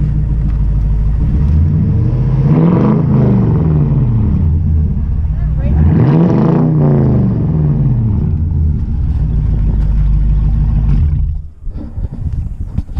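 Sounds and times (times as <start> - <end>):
truck engine revving and idling: 0.0 - 12.4.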